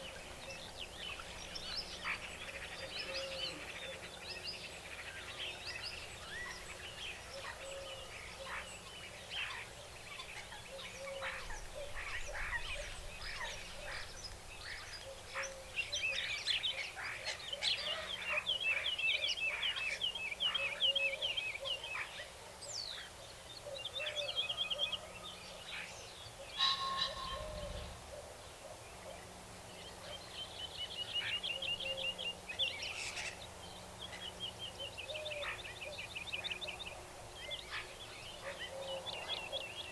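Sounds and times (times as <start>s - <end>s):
birds chirping and trilling: 0.0s - 39.9s
faint steady background noise: 0.0s - 39.9s.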